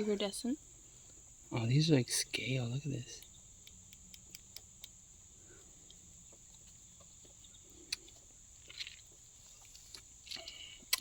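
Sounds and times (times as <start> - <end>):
high insect chorus: 0.0 - 11.0.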